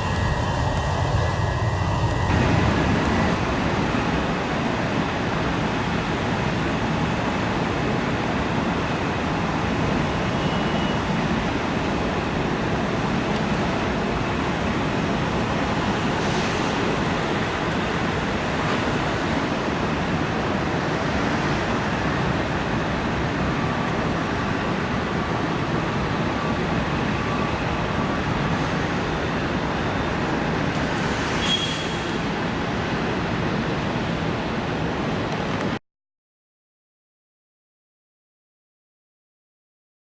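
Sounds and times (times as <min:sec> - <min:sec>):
faint engine whine: 0:00.0 - 0:35.8
jet engines rushing: 0:00.0 - 0:35.8.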